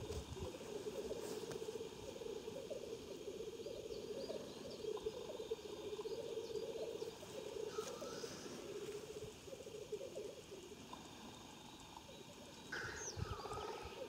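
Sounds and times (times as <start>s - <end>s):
grouse bubbling song: 0.0s - 14.0s.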